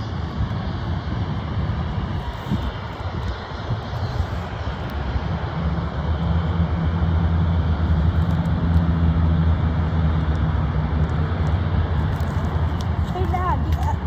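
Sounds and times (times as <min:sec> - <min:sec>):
constant noise wash: 0:00.0 - 0:14.0
low engine hum: 0:00.0 - 0:14.0.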